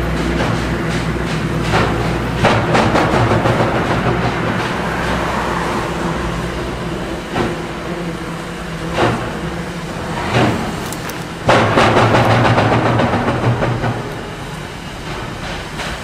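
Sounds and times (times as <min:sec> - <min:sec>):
sharp steam chuffs: 0:00.0 - 0:16.0
steam locomotive rumbling: 0:00.0 - 0:16.0.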